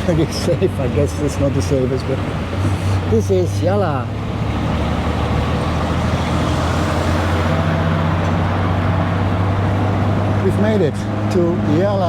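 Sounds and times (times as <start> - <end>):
road noise: 0.0 - 12.0
tuk-tuk engine running: 0.0 - 12.0.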